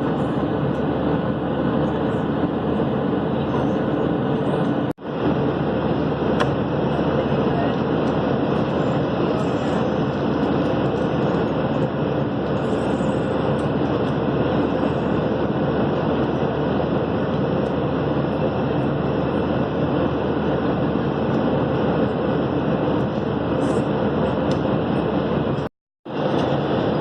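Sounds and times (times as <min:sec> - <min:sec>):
airplane cabin engine noise: 0:00.0 - 0:27.0.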